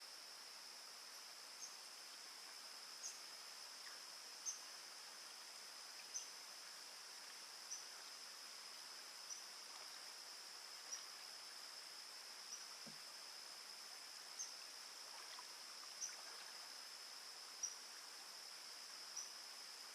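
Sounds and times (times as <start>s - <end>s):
crickets chorus: 0.0s - 19.9s.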